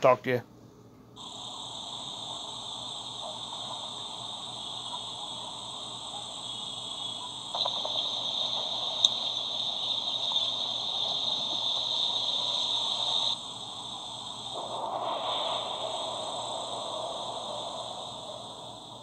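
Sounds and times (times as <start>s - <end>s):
high hiss with buzzing edge: 1.2s - 19.0s.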